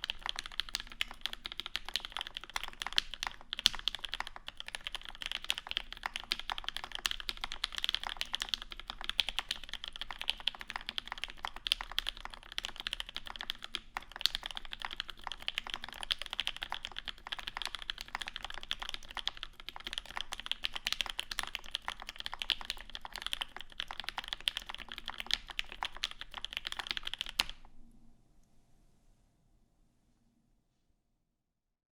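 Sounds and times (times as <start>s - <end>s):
fast typing on mechanical keyboard: 0.0s - 27.6s.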